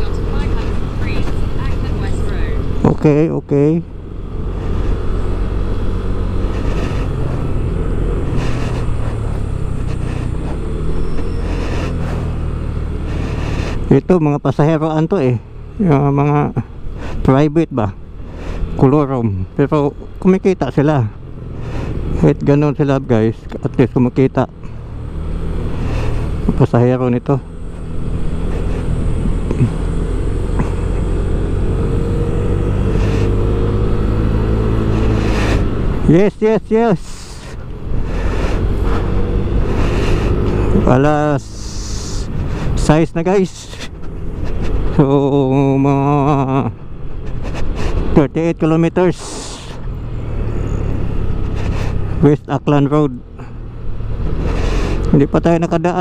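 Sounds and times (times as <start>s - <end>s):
road noise: 0.0s - 56.0s
scooter engine drone: 0.0s - 56.0s.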